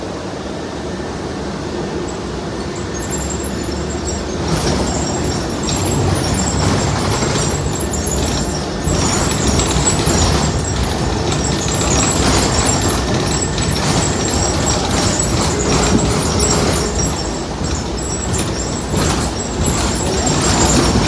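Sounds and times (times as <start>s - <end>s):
bus running noise: 0.0s - 21.0s.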